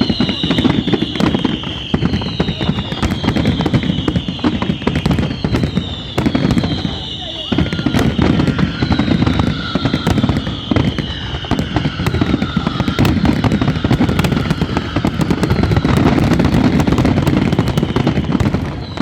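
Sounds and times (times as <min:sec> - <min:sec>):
fireworks crackling bangs: 0:00.0 - 0:19.0
fireworks rumbling booms: 0:00.0 - 0:19.0
fireworks whistles: 0:00.0 - 0:19.0.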